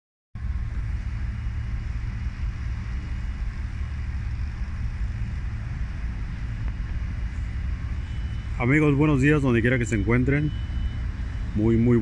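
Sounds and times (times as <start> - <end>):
low rumble: 0.4 - 12.0.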